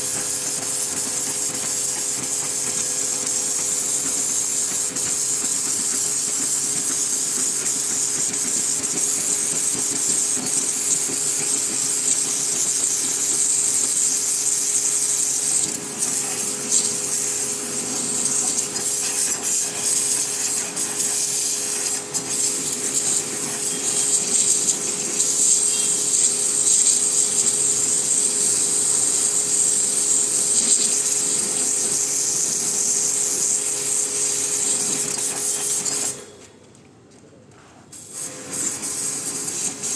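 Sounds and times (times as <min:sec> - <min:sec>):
water jet spraying hiss: 0:00.0 - 0:36.2, 0:38.0 - 0:39.9
pressure washer motor hum: 0:00.0 - 0:36.3, 0:38.0 - 0:39.9.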